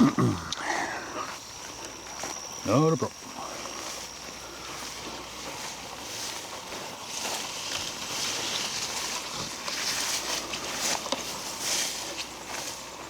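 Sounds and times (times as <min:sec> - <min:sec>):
footsteps crunching through dry leaves: 0:00.7 - 0:13.0.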